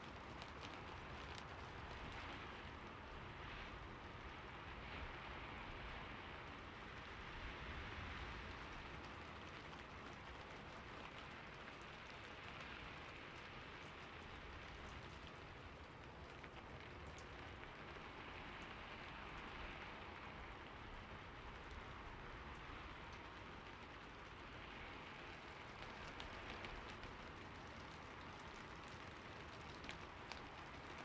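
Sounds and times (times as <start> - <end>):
rain on a roof: 0.0 - 31.0.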